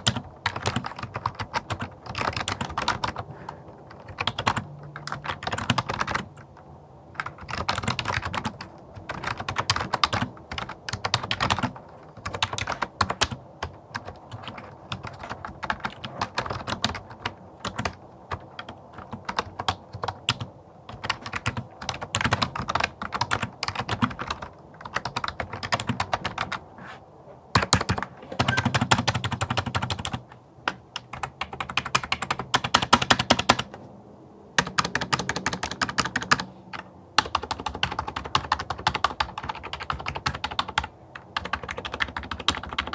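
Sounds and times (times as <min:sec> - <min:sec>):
keyboard keys clicking: 0:00.0 - 0:26.6, 0:27.5 - 0:33.8, 0:34.6 - 0:42.9.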